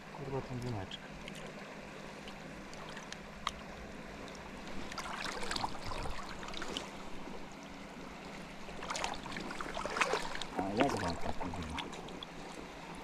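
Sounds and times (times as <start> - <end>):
river water splashing at bank: 0.0 - 13.0
steady low hum: 0.0 - 13.0.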